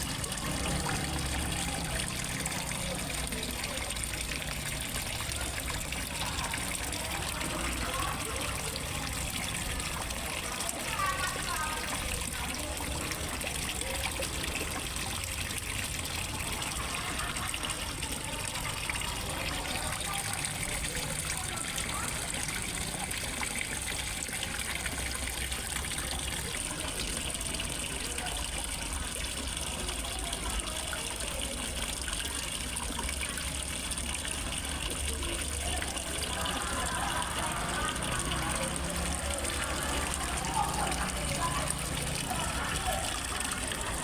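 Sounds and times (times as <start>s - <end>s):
water running into pond: 0.0s - 44.0s.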